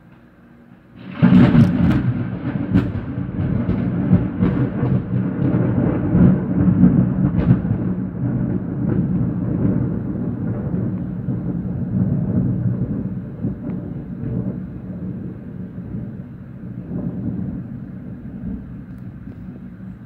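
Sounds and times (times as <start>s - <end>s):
thunder rumbling: 0.5s - 20.0s.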